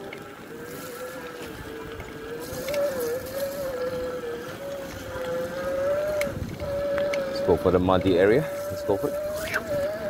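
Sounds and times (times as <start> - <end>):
electric hub motor whining: 0.0 - 10.0
tyres on wet gravel: 0.0 - 10.0.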